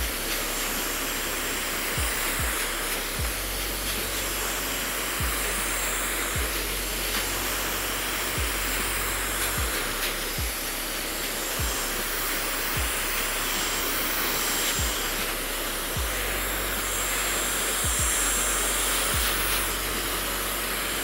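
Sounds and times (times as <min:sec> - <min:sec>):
background music thuds: 0:00.0 - 0:20.6
hair dryer blowing: 0:00.0 - 0:21.0.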